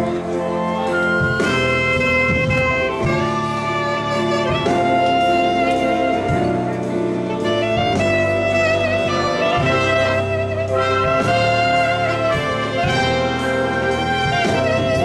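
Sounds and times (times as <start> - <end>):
live jazz band playing: 0.0 - 15.0
saxophone long held notes: 0.0 - 15.0.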